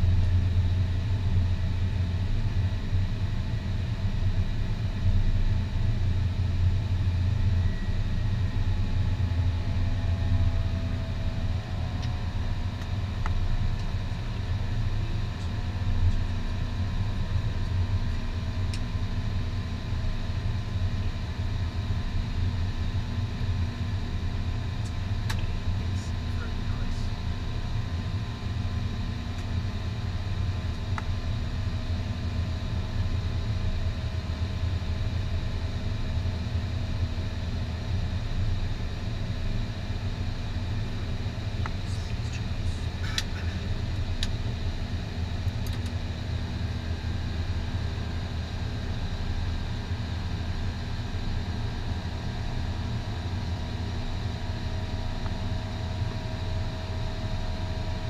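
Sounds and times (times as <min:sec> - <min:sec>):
aircraft cockpit rumble and hum: 0:00.0 - 0:58.0.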